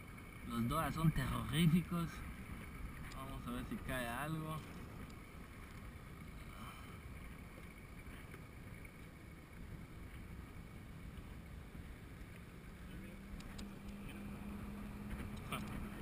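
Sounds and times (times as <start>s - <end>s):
motorboat engine hum: 0.0s - 16.0s
water around boat: 0.0s - 16.0s.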